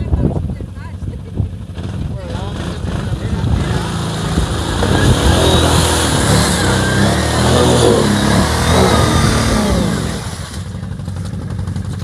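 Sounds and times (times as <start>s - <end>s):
quad engine revving in mud: 1.6s - 12.0s.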